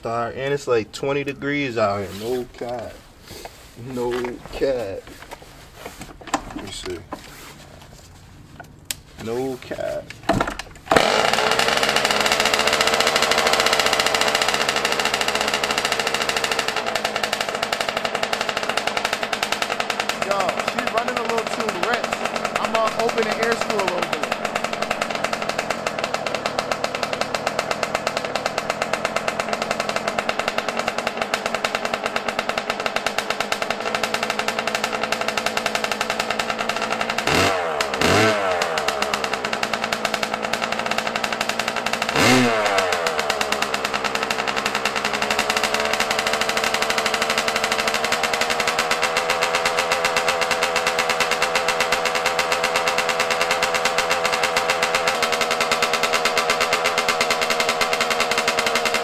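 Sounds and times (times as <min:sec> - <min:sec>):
two-stroke engine idling: 0:00.0 - 0:07.7, 0:08.5 - 0:59.0
engine revving: 0:00.0 - 0:07.8, 0:08.8 - 0:59.0.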